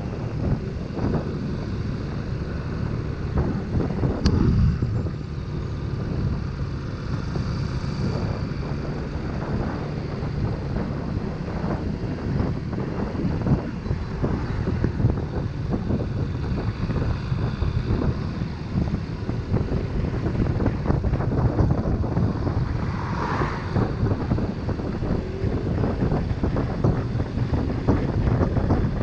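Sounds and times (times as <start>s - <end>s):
motorcycle engine: 0.0s - 29.0s
wind buffeting microphone: 0.0s - 29.0s.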